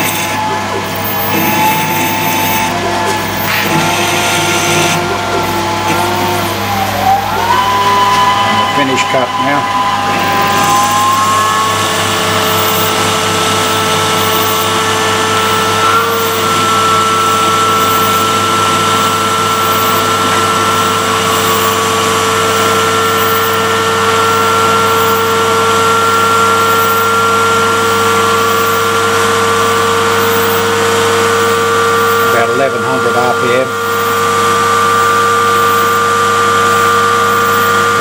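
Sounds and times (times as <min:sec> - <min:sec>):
lathe spindle whine: 0:00.0 - 0:38.0
metal cutting noise: 0:00.0 - 0:38.0.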